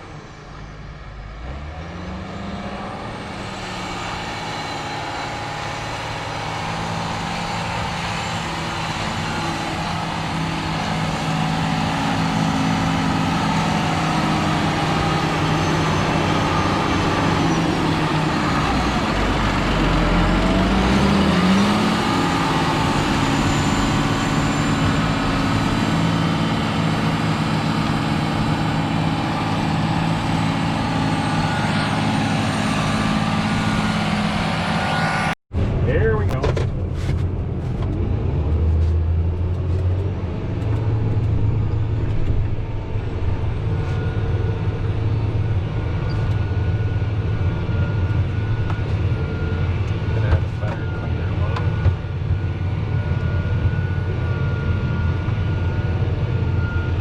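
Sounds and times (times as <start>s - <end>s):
heavy farm vehicle engine: 0.0s - 57.0s.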